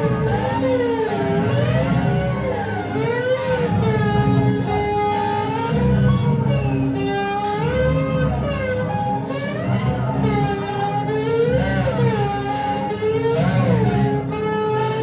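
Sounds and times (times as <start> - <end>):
guitar with bending held notes: 0.0 - 15.0.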